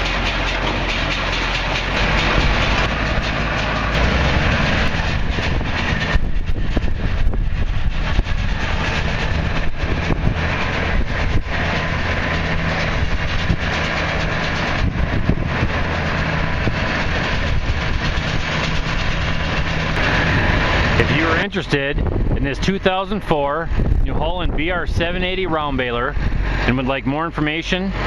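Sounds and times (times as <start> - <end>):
baler machinery rattling: 0.0 - 28.0
tractor engine drone: 0.0 - 28.0.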